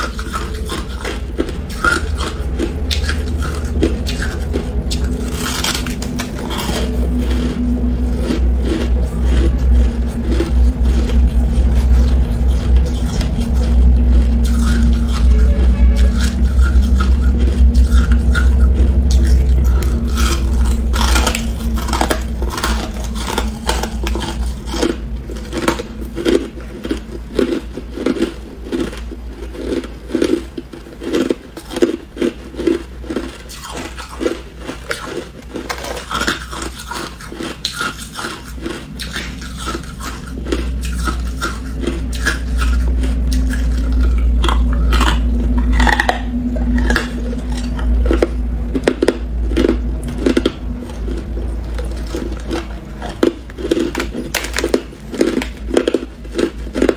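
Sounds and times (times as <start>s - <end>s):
person chewing hard ice: 0.0s - 56.9s
steady low hum: 0.0s - 56.9s.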